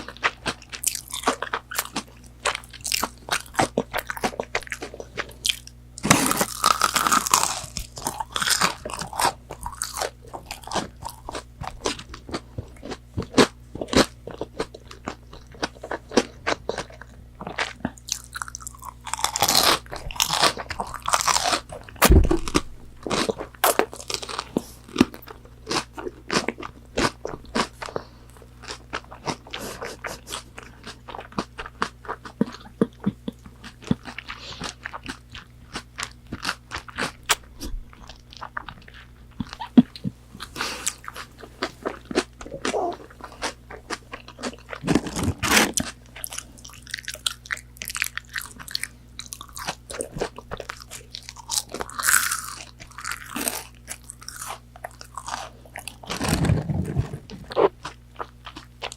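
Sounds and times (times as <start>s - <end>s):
crunching and chewing food: 0.0s - 58.9s.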